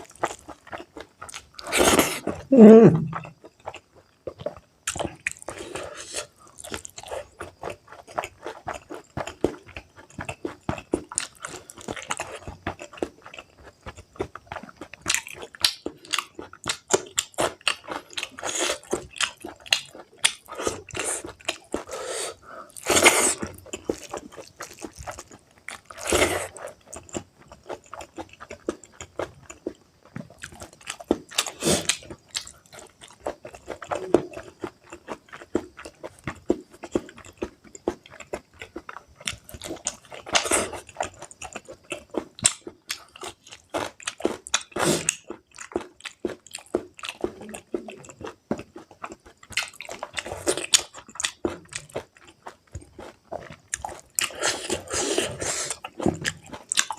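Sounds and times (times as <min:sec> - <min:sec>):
chewing and mouth smacks: 0:00.0 - 0:56.9.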